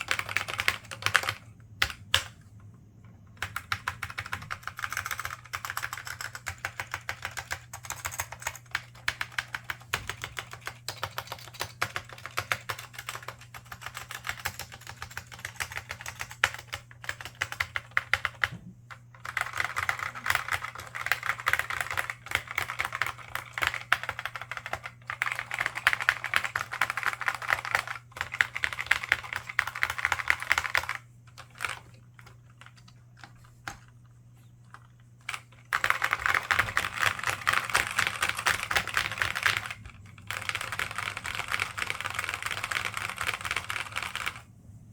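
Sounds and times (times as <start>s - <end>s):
laptop keyboard typing: 0.0s - 2.6s, 3.2s - 44.5s.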